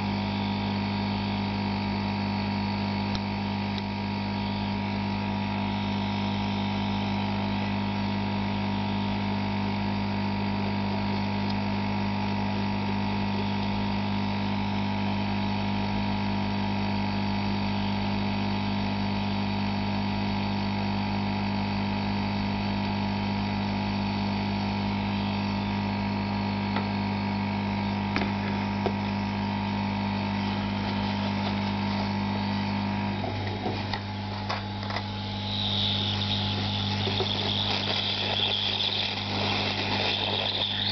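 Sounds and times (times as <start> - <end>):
hot-air station blowing: 0.0 - 17.2, 23.2 - 40.9.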